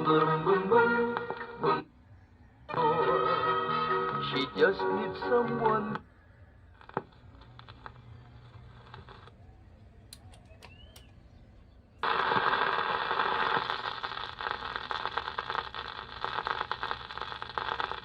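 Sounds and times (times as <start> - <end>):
record groove hiss and crackle: 0.0 - 11.2, 12.0 - 18.0.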